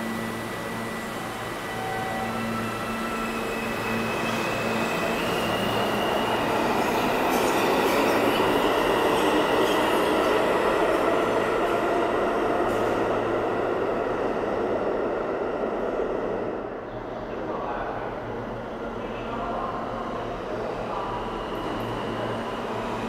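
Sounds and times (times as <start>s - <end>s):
subway train rumbling rush: 0.0s - 23.0s
train high whine: 0.0s - 23.0s.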